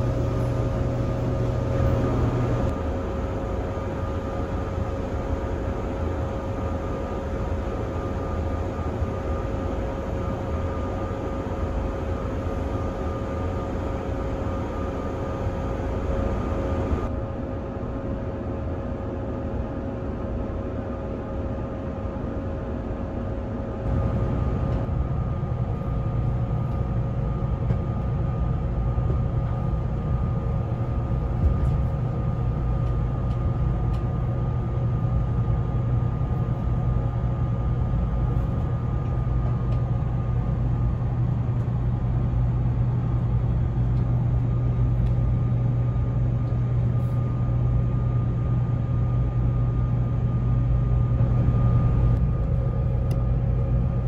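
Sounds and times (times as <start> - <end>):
train equipment hum and whine: 0.0 - 54.0.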